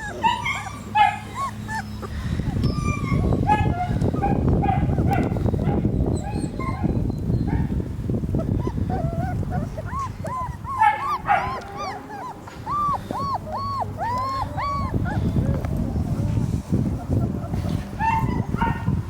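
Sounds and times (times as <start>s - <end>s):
puppies whimpering: 0.0s - 18.9s.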